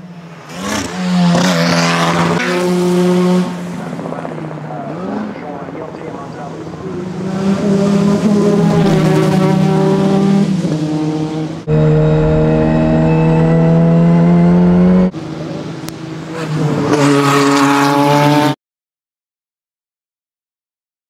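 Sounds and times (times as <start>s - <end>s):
race car engine at high revs: 0.0s - 18.6s.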